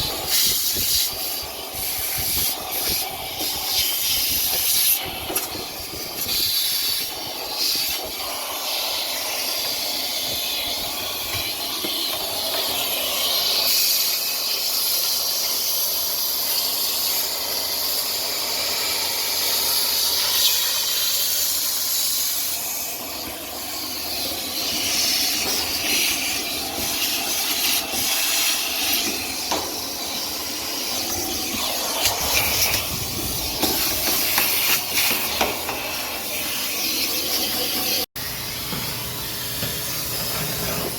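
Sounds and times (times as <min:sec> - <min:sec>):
vacuum hose air rush: 0:00.0 - 0:40.9.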